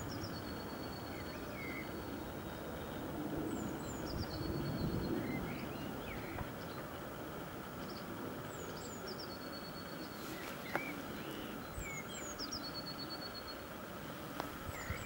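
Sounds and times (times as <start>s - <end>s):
faint steady rumble: 0.0s - 15.0s
songbird singing: 0.0s - 15.0s.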